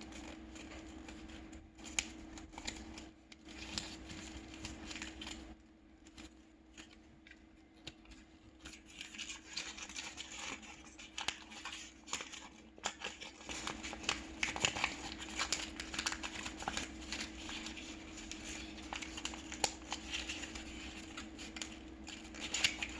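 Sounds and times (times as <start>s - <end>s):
paper folding and rustling: 0.0s - 22.9s.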